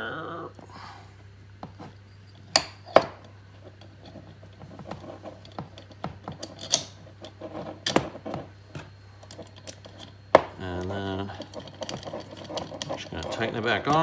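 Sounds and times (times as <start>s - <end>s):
small steel parts clinking: 2.0s - 14.0s.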